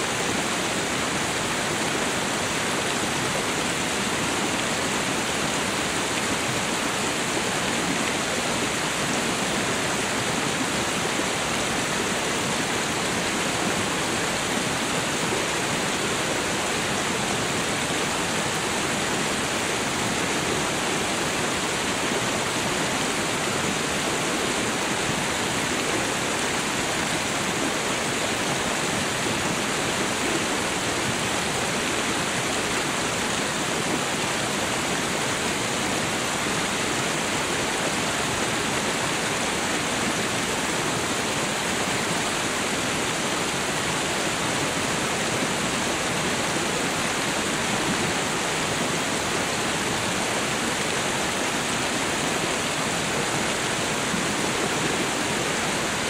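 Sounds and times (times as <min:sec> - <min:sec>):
waterfall crashing on rocks: 0:00.0 - 0:56.0.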